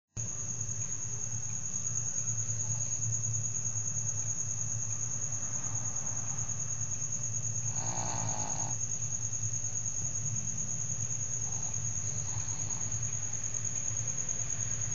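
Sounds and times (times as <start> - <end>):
cricket chirping: 0.2 - 14.9.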